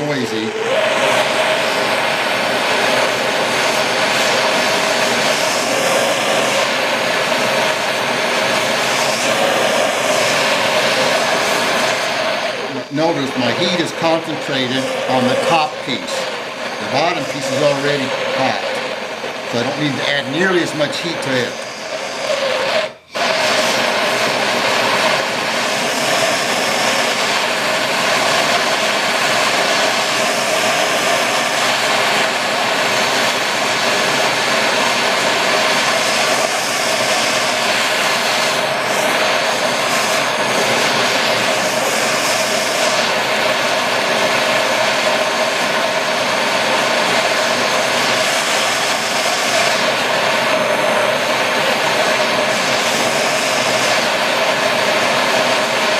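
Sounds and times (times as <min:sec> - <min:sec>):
propane torch rushing burn: 0:00.0 - 0:55.9.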